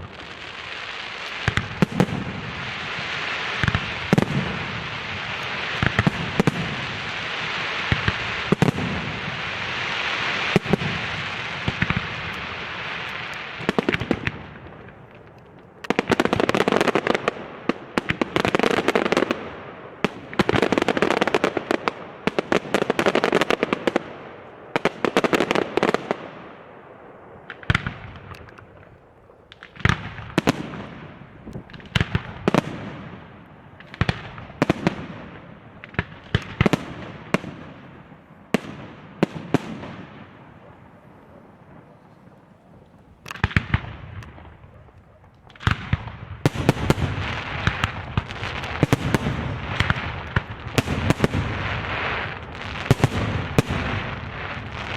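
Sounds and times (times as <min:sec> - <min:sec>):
fireworks bangs and bursts: 0:00.0 - 0:54.9
fireworks crackling: 0:00.0 - 0:54.9.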